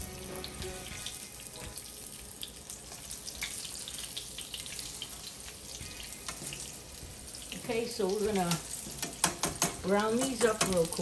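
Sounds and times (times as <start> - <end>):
steaks sizzling in hot oil: 0.0 - 11.0.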